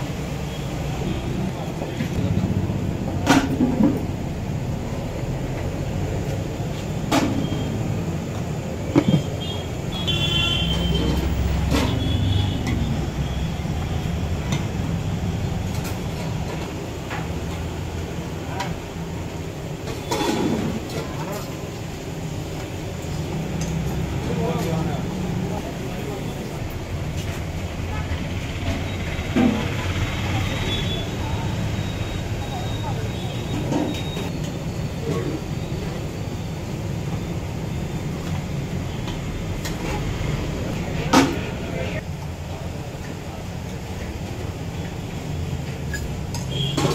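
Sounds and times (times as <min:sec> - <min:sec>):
low rumble of traffic: 0:00.0 - 0:46.9.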